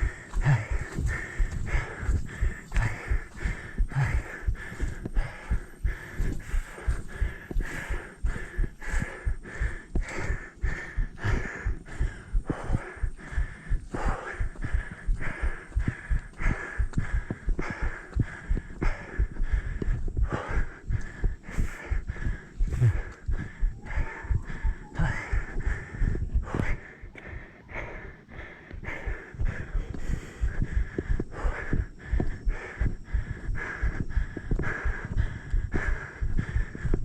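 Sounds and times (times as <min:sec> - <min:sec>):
footsteps thudding on a trail: 0:00.0 - 0:37.0
hard rhythmic breathing: 0:00.0 - 0:37.0.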